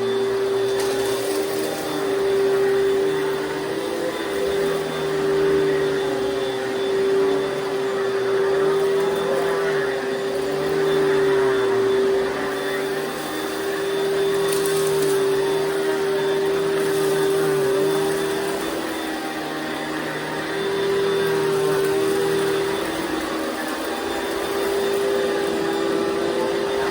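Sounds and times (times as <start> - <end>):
vacuum cleaner motor whine: 0.0 - 26.9.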